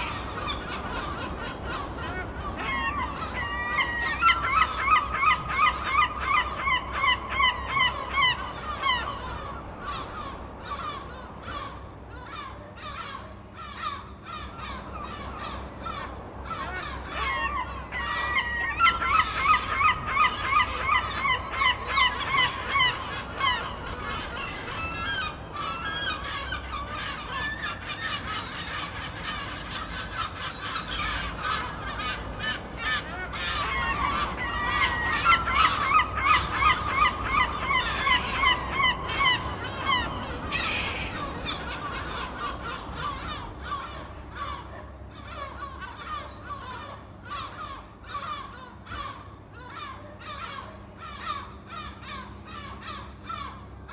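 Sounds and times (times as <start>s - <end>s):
gulls squawking: 0.0s - 53.9s.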